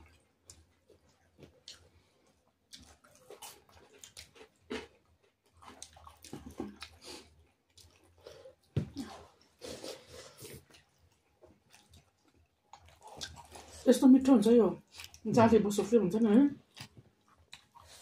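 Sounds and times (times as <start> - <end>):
wet chewing and lip-smacking: 0.0 - 13.8, 14.8 - 15.3, 16.2 - 18.0.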